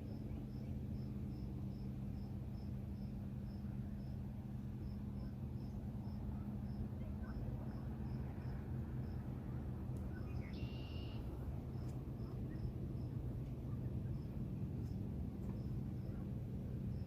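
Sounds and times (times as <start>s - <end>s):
crickets chirping: 0.0s - 9.4s, 10.1s - 13.3s, 14.0s - 17.0s
low steady hum: 0.0s - 17.0s.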